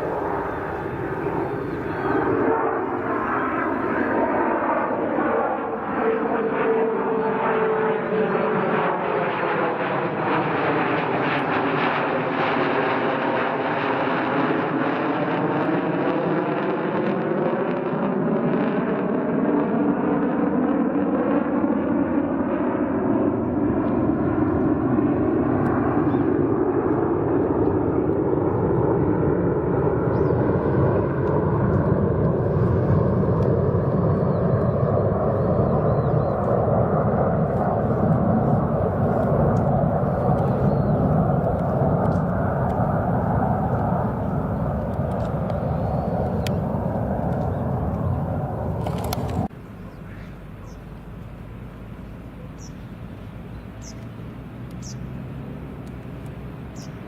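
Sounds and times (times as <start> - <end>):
jet aircraft flying past: 0.0 - 57.0.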